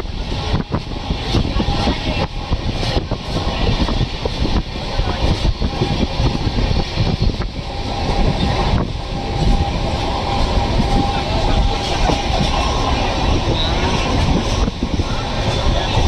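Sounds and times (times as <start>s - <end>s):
rushing air: 0.0s - 16.0s
train wheels rumbling on track: 0.0s - 16.0s.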